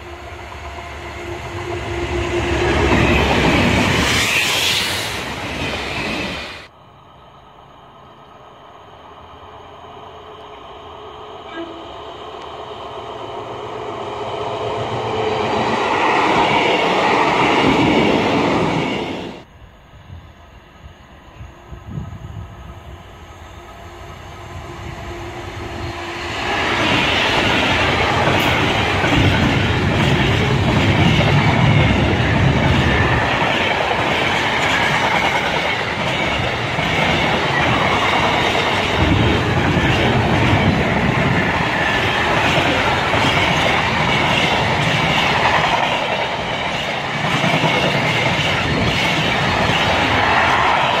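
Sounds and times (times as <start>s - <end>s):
diesel locomotive passing: 0.0s - 51.0s.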